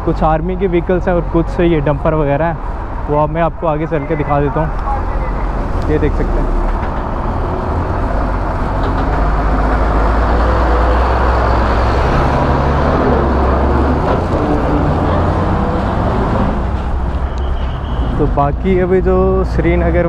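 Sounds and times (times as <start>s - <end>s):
road noise roar: 0.0s - 20.0s
vehicle engine rumble: 0.0s - 20.0s.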